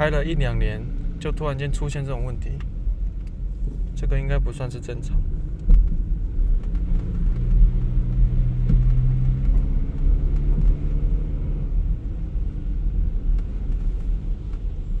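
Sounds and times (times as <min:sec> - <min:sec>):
car engine droning hum: 0:00.0 - 0:15.0.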